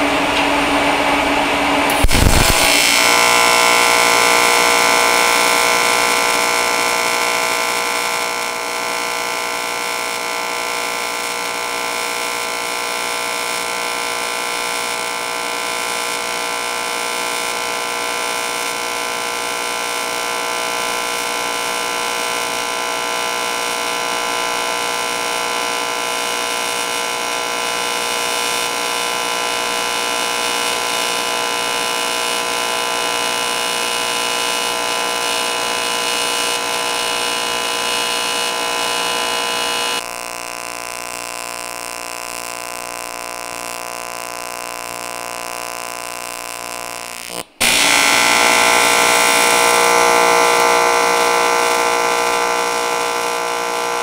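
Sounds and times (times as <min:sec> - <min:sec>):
welding arc buzz: 0:00.0 - 0:54.0.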